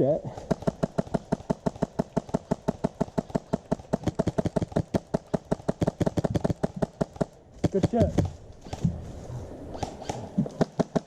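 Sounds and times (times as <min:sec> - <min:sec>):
airsoft gun rapid firing: 0:00.3 - 0:08.8, 0:09.8 - 0:11.0.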